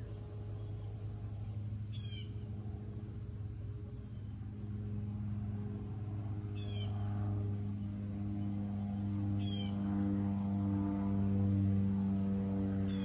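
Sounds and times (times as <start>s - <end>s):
steady low drone: 0.0s - 13.0s.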